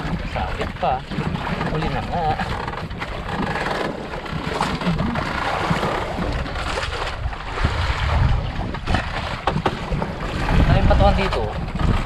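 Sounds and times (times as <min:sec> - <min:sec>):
water lapping against boat: 0:00.0 - 0:12.0
wind buffeting microphone: 0:00.0 - 0:12.0.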